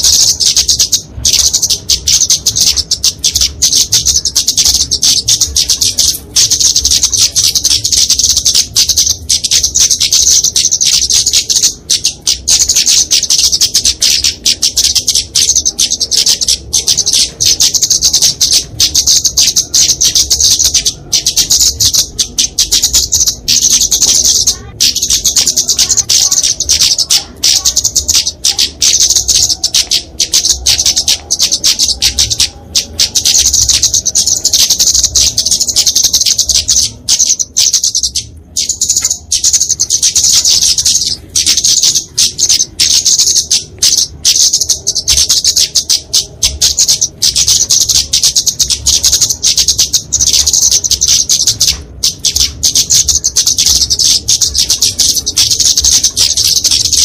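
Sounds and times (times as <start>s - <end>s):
bird chirping high-pitched: 0.0s - 57.0s.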